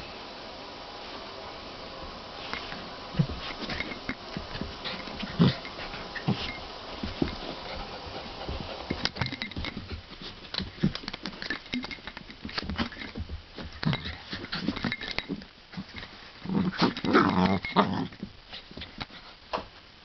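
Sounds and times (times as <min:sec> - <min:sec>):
dogs scuffling and pawing: 0:02.4 - 0:19.4.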